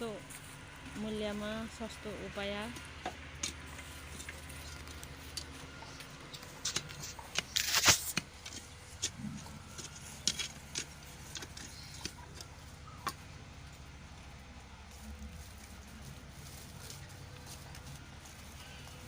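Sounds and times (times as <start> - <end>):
dry leaves rustling: 0.0 - 19.0
goats eating dry grass: 0.0 - 19.0.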